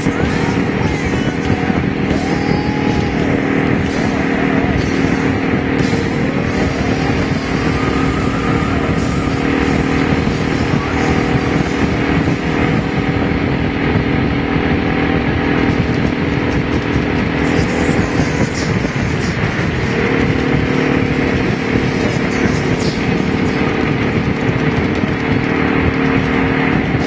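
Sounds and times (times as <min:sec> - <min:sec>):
motorcycle engine cruising: 0:00.0 - 0:27.0
wind rush over microphone: 0:00.0 - 0:27.0.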